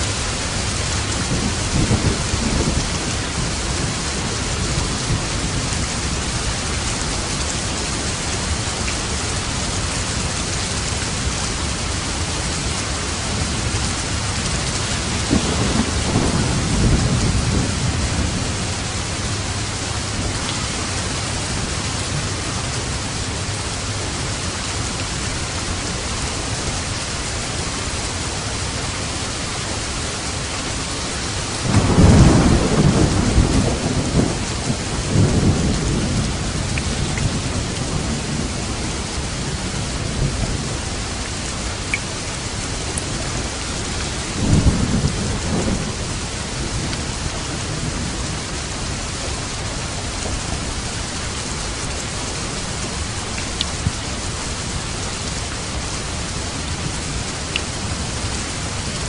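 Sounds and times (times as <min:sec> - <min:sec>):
thunder rumbling: 0:00.0 - 0:24.6, 0:30.8 - 0:59.0
heavy rain: 0:00.0 - 0:59.0.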